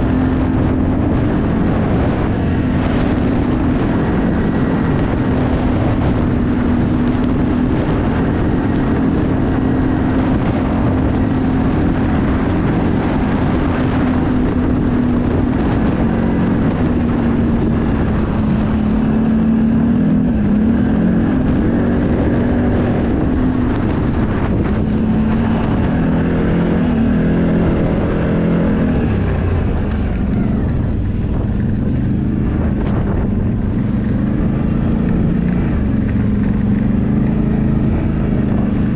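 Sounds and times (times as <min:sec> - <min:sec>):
off-road vehicle engine running: 0:00.0 - 0:38.9
wind rushing over microphone: 0:00.0 - 0:38.9.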